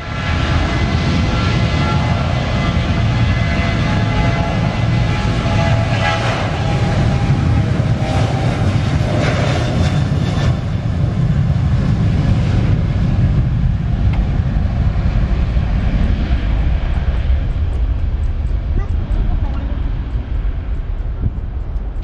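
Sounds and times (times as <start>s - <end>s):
engine fan whine: 0.0s - 22.0s
jet engines low rumble: 0.0s - 22.0s.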